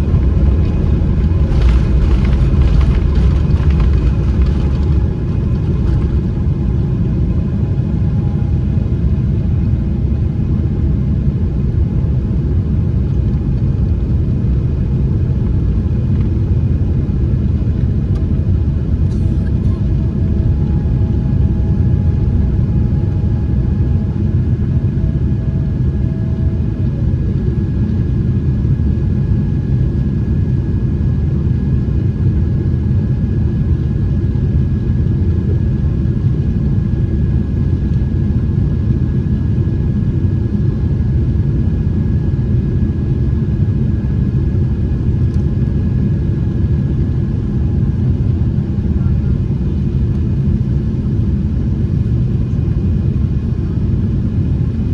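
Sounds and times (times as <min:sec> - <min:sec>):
airplane cabin rumble: 0:00.0 - 0:54.9.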